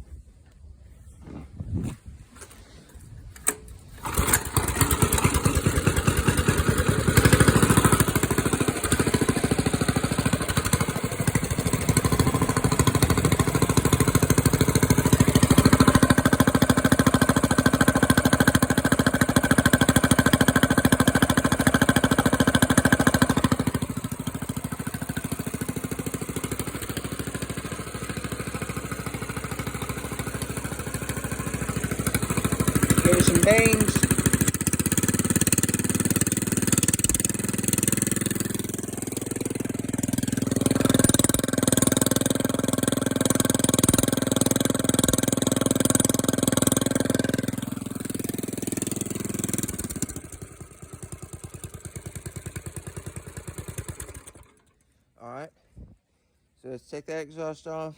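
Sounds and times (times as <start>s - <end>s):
engine starting and running: 0.4s - 55.2s.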